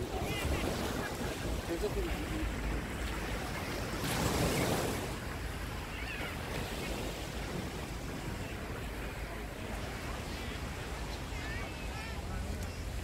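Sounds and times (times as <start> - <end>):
small waves breaking on sand: 0.0 - 13.0.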